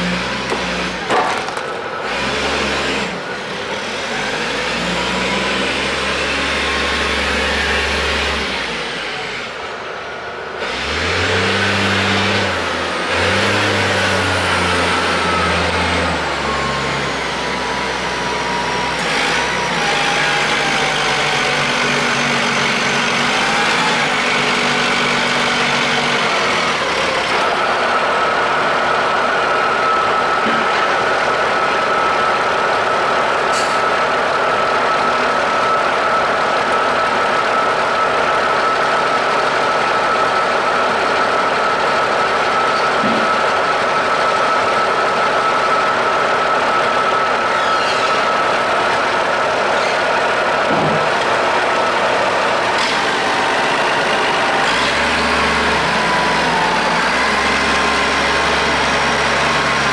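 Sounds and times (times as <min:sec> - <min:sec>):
diesel engine revving: 0:00.0 - 0:59.9
hydraulics whining: 0:00.0 - 0:59.9.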